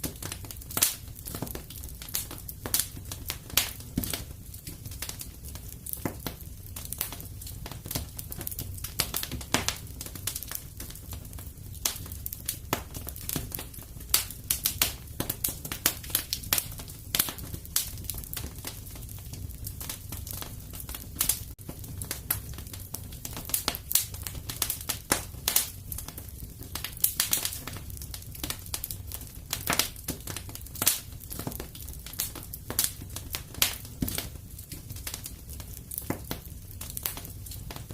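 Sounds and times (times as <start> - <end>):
low rumble of flames: 0.0 - 37.9
wood fire crackling and popping: 0.0 - 37.9.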